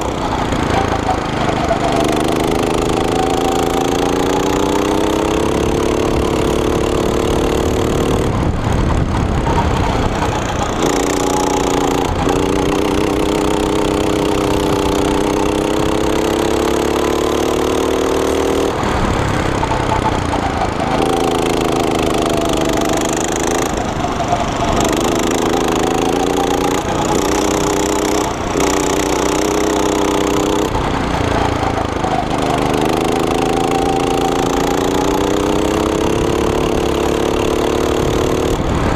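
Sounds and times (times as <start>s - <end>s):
go-kart engine running hard: 0.0s - 38.9s.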